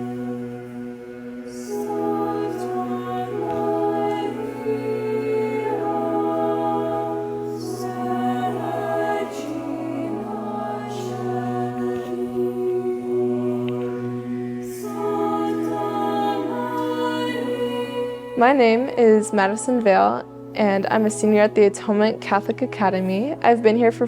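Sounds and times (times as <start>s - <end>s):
choir singing a chant: 0.0s - 24.0s.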